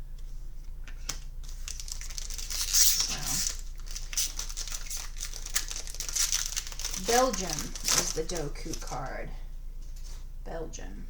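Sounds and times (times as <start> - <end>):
thin plastic crinkling: 0.9 - 10.2.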